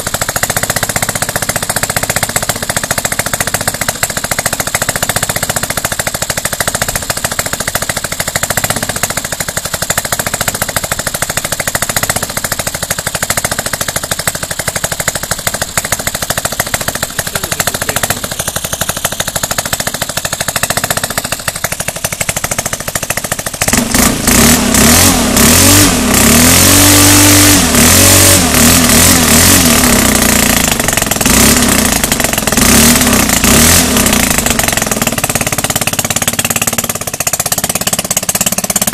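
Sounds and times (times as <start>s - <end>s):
four-stroke engine idling and revving: 0.0s - 38.9s.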